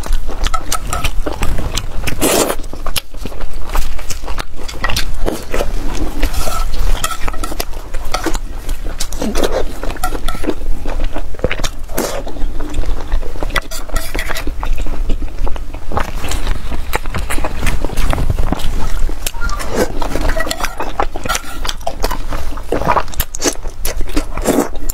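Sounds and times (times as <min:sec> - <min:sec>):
chopsticks clicking and scraping: 0:00.0 - 0:14.9, 0:16.0 - 0:24.9
chewing: 0:00.0 - 0:24.9.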